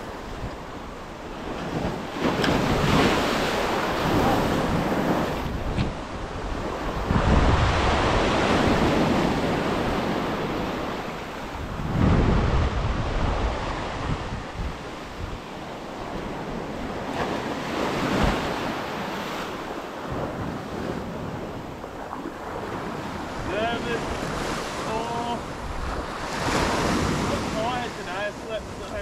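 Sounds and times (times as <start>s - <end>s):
wind rumbling on microphone: 0.0s - 27.9s
small waves breaking on beach: 0.0s - 29.0s.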